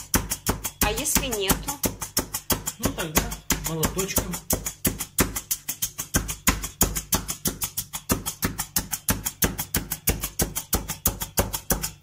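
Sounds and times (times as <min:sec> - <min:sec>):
meat tenderizer clacking on board: 0:00.0 - 0:12.0.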